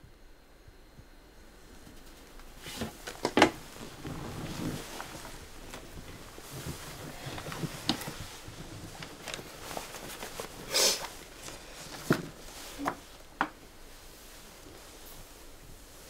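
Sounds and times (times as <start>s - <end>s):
clothing rustling: 1.6s - 16.0s.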